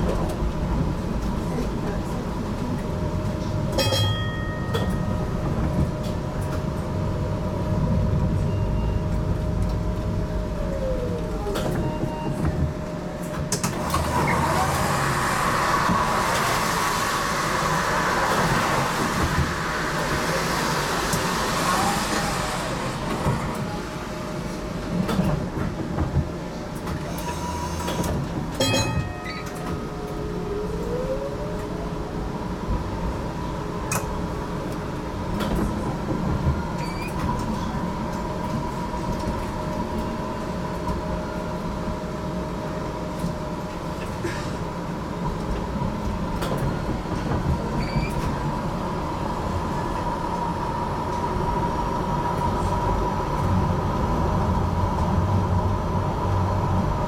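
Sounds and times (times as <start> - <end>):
tram motor whine: 0.0 - 57.0
tram running on rails: 0.0 - 57.0.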